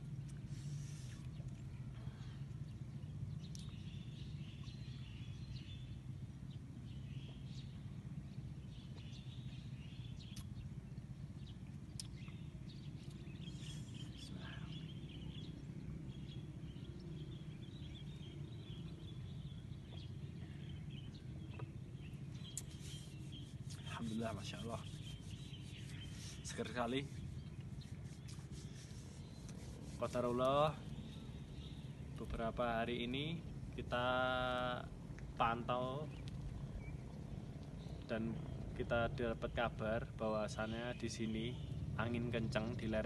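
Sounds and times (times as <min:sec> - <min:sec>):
birds chirping: 0:00.0 - 0:43.0
steady low rumble: 0:00.0 - 0:43.0.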